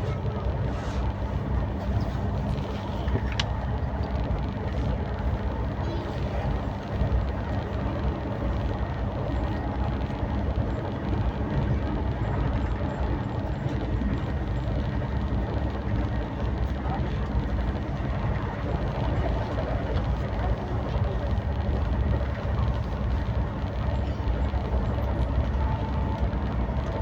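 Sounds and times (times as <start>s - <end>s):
faint hum: 0.0s - 27.0s
train wheels rumbling: 0.0s - 27.0s.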